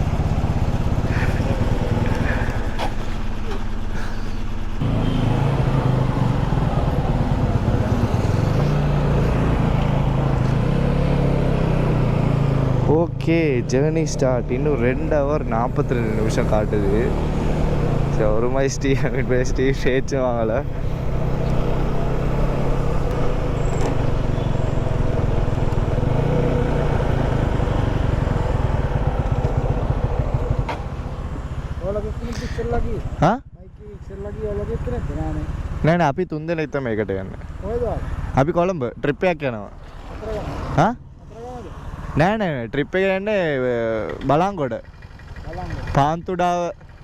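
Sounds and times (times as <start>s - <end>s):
road and wind noise: 0.0s - 47.0s
vehicle engine humming: 0.0s - 47.0s.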